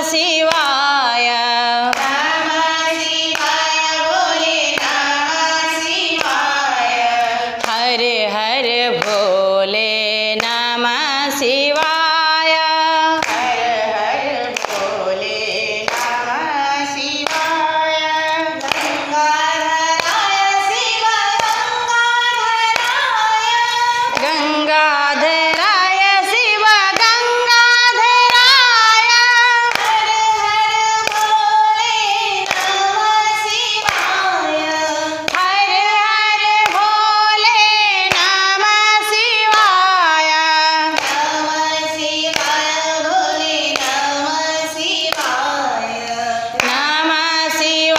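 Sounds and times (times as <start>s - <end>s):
hand-clapping: 0.0s - 47.9s
women singing together: 0.0s - 47.9s.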